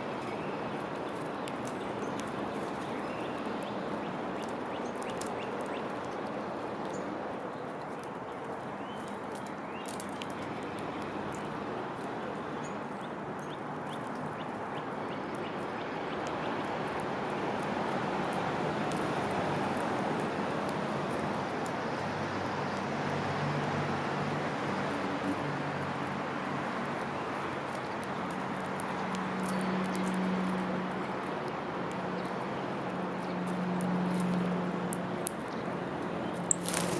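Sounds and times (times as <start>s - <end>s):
rushing outdoor background noise: 0.0s - 36.9s.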